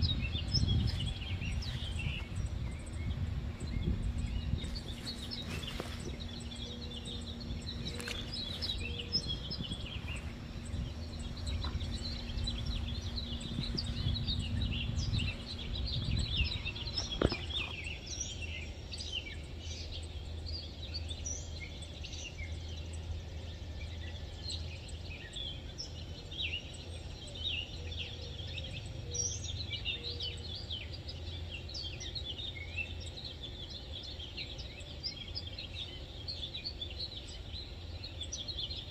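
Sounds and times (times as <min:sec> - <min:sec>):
low steady rumble: 0:00.0 - 0:38.9
small birds chirping: 0:00.0 - 0:38.9.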